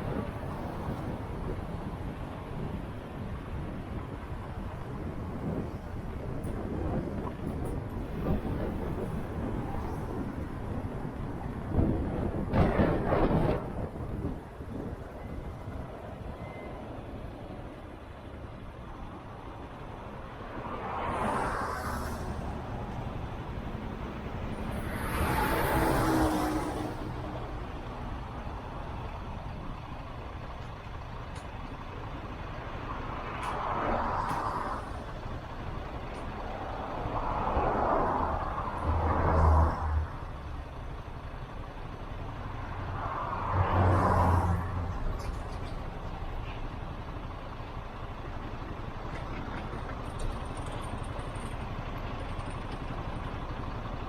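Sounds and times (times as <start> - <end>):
road traffic hum: 0.0 - 54.0
vehicles passing by: 0.0 - 54.0.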